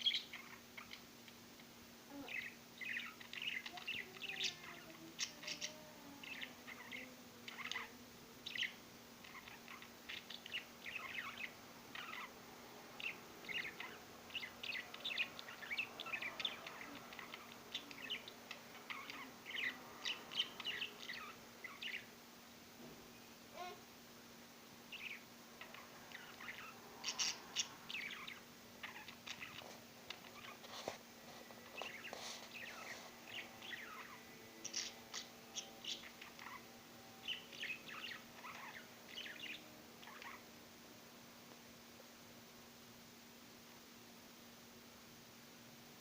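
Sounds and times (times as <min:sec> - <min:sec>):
birds chirping: 0:00.0 - 0:22.2, 0:24.8 - 0:40.6
faint low hum: 0:00.0 - 0:46.0.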